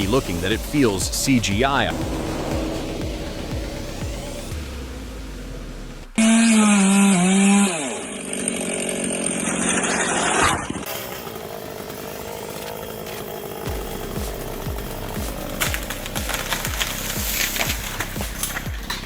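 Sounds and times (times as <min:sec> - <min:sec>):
chainsaw cutting wood: 0:00.0 - 0:05.0, 0:06.2 - 0:19.0.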